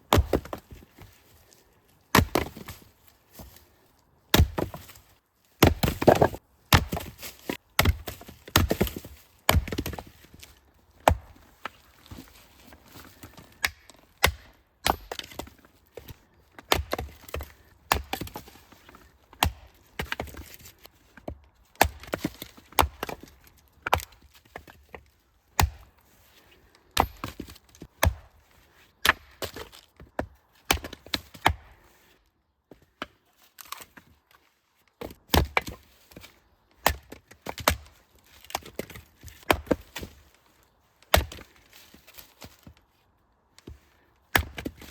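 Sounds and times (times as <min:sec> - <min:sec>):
firewood being chopped: 0:00.0 - 0:01.4, 0:02.1 - 0:03.6, 0:04.3 - 0:31.8, 0:32.7 - 0:34.0, 0:35.0 - 0:40.4, 0:41.0 - 0:42.8, 0:43.6 - 0:44.9.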